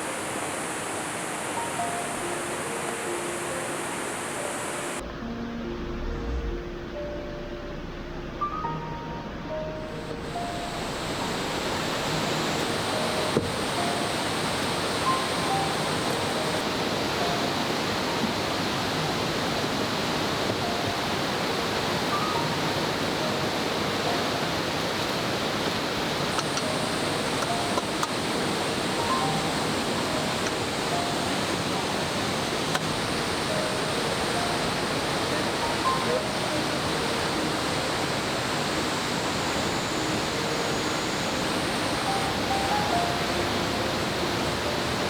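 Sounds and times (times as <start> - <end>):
river rushing: 0.0 - 45.0
music of single notes: 1.3 - 45.0.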